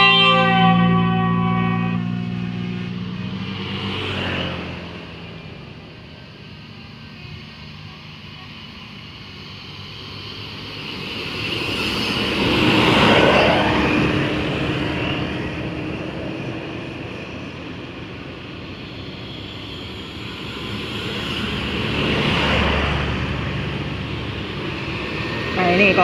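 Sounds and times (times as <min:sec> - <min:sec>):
buses driving past: 0:00.0 - 0:26.0.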